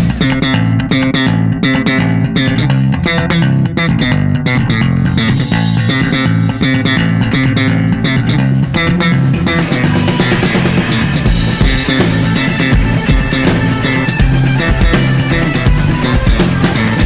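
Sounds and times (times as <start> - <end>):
bass guitar line: 0.0 - 17.0
rock music: 0.0 - 17.0.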